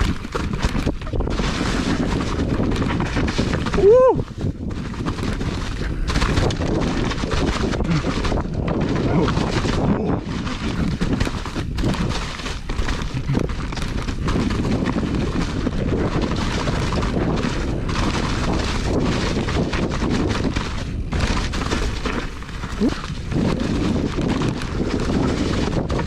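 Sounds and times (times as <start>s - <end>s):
bike knocks and rattles: 0.0s - 26.0s
tyres rumbling on trail: 0.0s - 26.0s
wind buffeting microphone: 0.0s - 26.0s.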